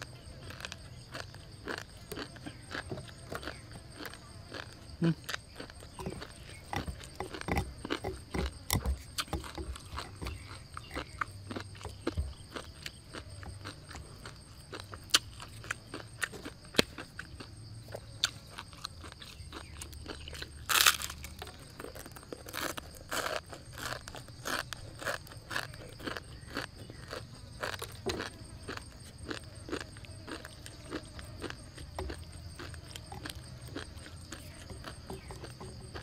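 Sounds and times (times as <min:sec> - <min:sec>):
crunching dry noodles: 0:00.0 - 0:36.0.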